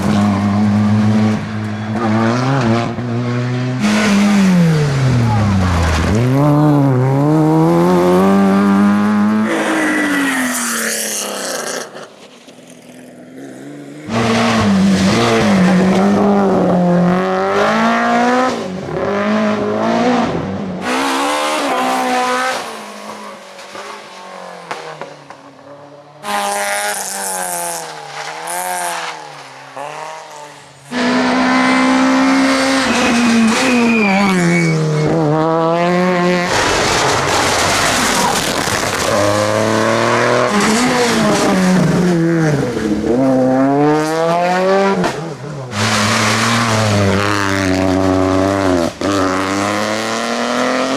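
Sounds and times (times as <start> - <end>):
rally car engines revving: 0.0 - 50.9.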